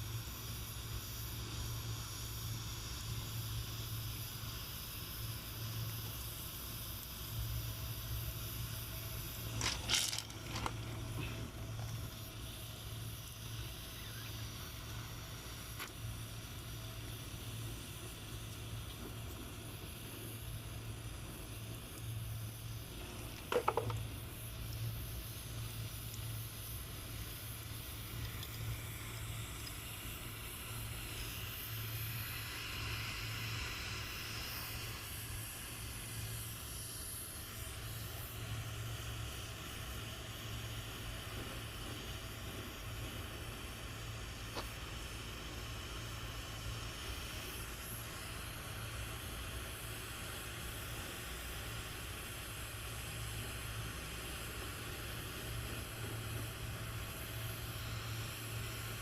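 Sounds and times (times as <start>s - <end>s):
constant low hum: 0.0s - 59.0s
gas hissing: 0.0s - 59.0s.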